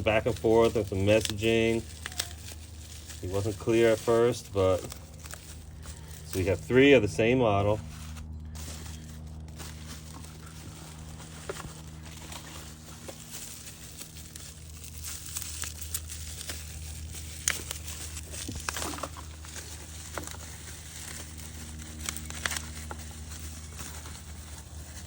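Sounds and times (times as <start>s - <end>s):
packaging crinkling and tearing: 0.0s - 25.0s
steady low hum: 0.0s - 25.0s.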